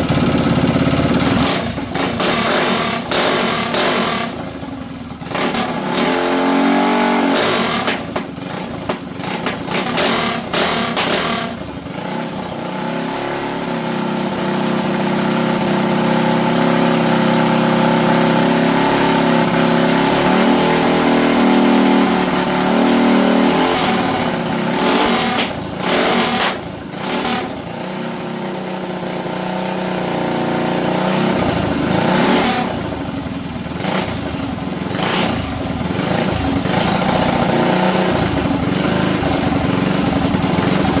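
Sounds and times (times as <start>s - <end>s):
minibike engine running unevenly: 0.0s - 41.0s.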